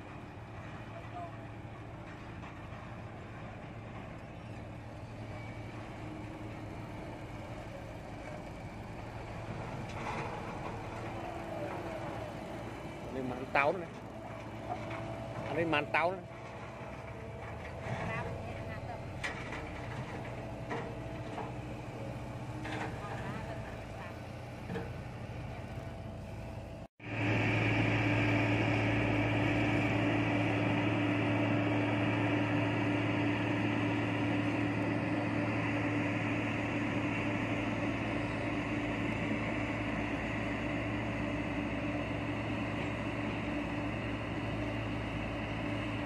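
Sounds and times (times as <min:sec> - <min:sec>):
road roller diesel engine: 0:00.0 - 0:46.0.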